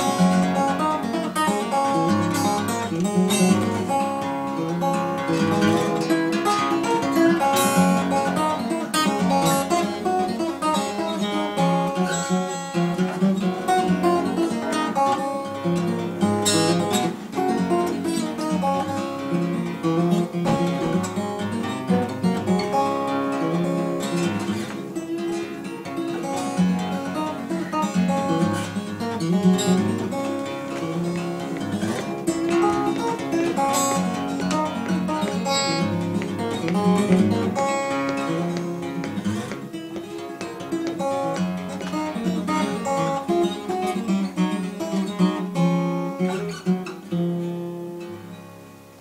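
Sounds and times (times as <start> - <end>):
fingerstyle acoustic guitar: 0.0 - 49.0.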